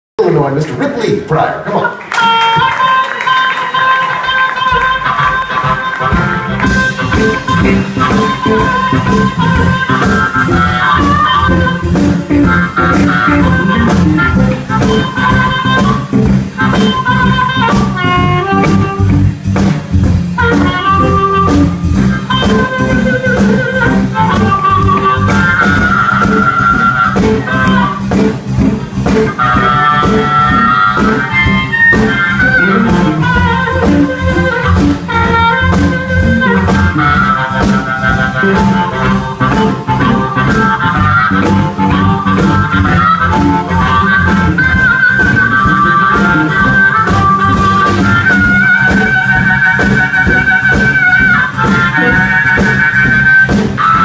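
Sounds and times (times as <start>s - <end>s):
electric guitar: 1.6s - 54.0s
harmonica with bending notes: 2.1s - 54.0s
drum kit steady beat: 2.2s - 54.0s.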